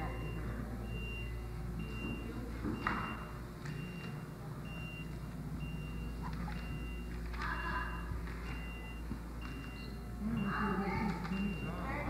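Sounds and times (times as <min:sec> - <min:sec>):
electronic alarm beeping: 0:00.0 - 0:12.0.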